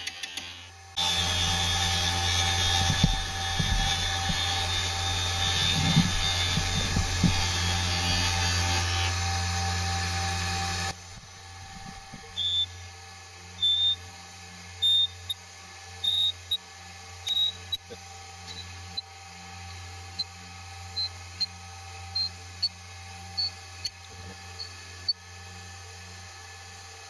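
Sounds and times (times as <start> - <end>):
spindle motor running: 0.0 - 27.0.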